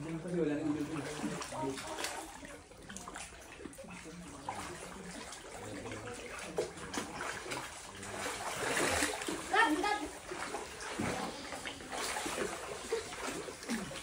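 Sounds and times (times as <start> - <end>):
water splashing and lapping: 0.0 - 14.0.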